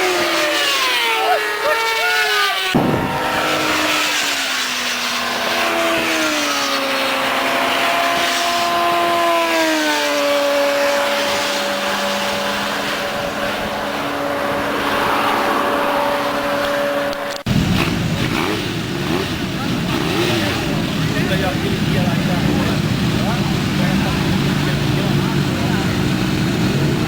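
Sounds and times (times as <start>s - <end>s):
vehicle engine at speed: 0.0s - 27.0s
wind and road noise: 0.0s - 27.0s.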